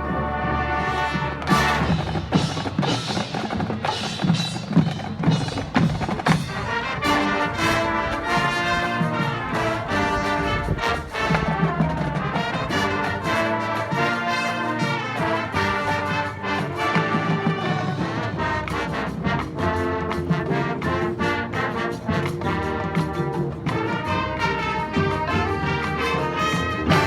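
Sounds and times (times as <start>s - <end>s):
horns playing held chords: 0.0s - 2.4s, 6.6s - 27.0s.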